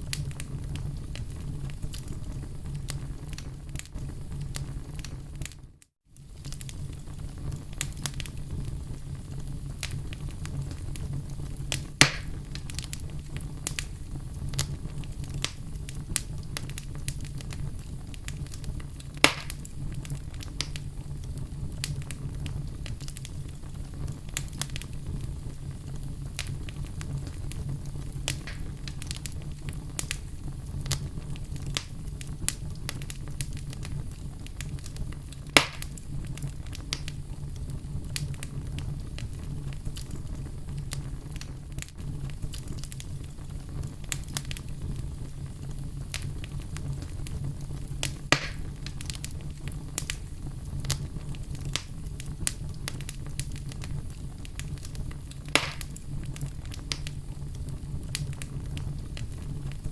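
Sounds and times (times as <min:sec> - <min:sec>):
loud fire pops: 0:00.0 - 0:59.9
wood fire crackling: 0:00.0 - 0:59.9.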